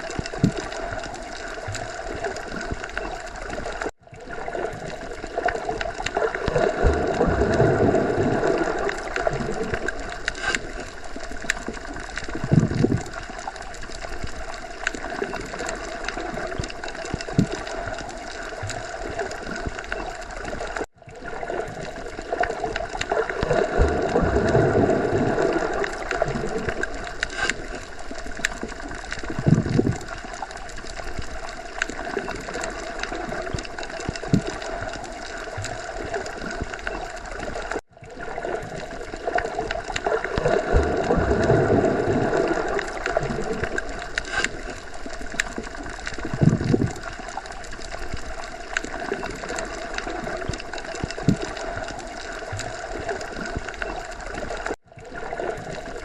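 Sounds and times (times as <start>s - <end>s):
underwater watery wash: 0.0s - 56.0s.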